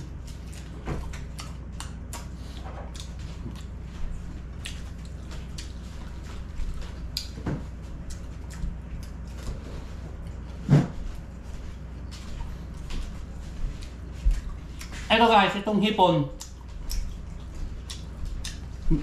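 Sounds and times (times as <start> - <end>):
person chewing with mouth smacks: 0.0 - 10.6, 11.6 - 15.1, 16.4 - 19.0.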